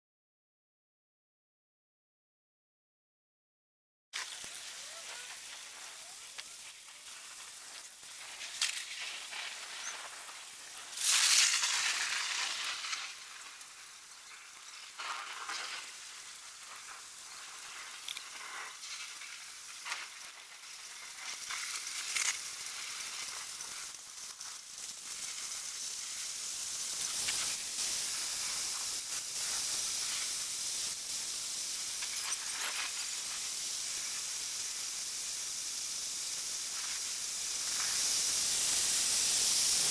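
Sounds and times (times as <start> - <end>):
storm wind and rain hiss: 4.2 - 39.9.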